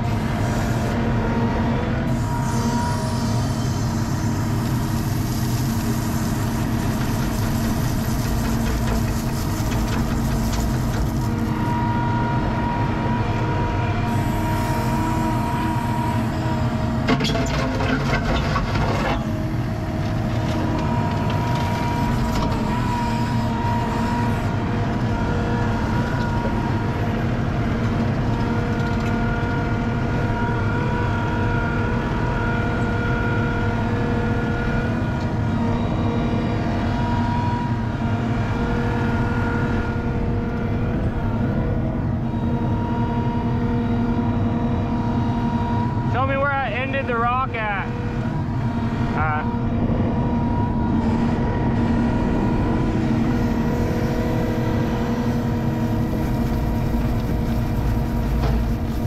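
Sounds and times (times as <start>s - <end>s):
diesel engine running: 0.0s - 59.0s
hydraulic whine: 0.0s - 59.0s.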